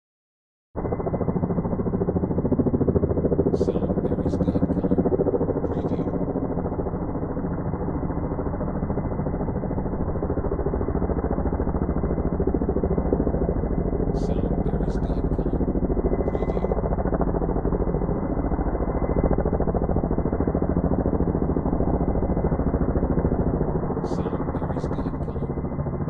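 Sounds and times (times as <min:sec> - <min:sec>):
distant helicopter rotor chop: 0:00.8 - 0:26.0.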